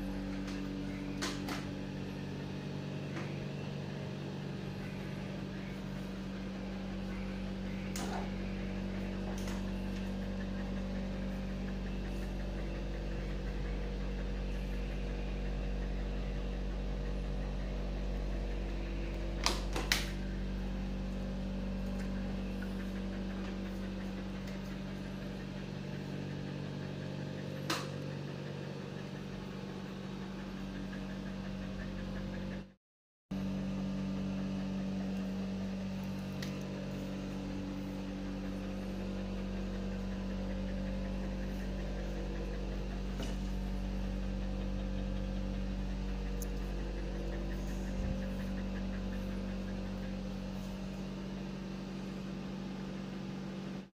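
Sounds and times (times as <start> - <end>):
toy electric motor hum: 0.0 - 32.8, 34.1 - 53.4.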